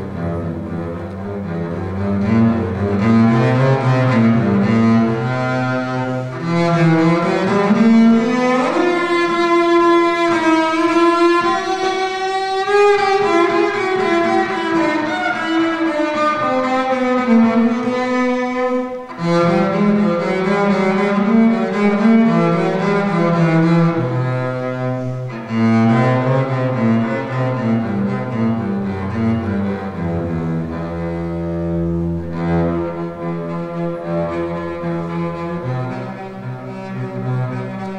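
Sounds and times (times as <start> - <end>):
bowed double bass: 0.0 - 37.9.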